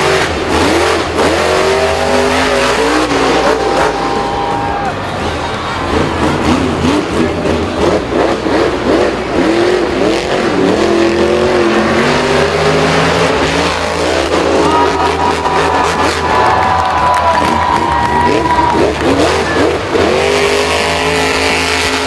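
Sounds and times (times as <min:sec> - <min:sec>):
engine revving hard: 0:00.0 - 0:22.0.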